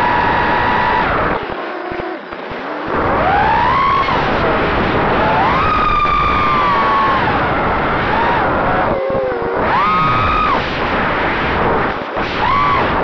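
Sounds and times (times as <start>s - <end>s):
quadcopter motors whining: 0.0s - 10.9s
rushing wind noise: 0.0s - 13.0s.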